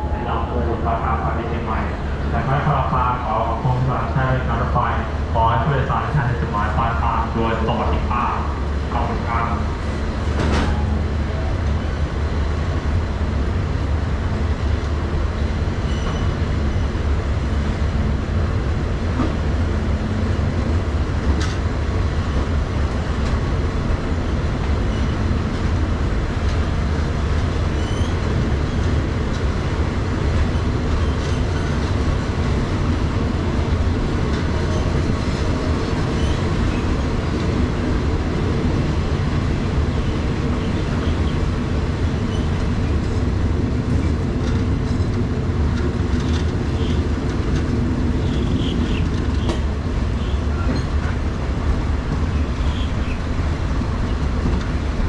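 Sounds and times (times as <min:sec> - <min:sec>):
passenger train rumbling: 0:00.0 - 0:55.0.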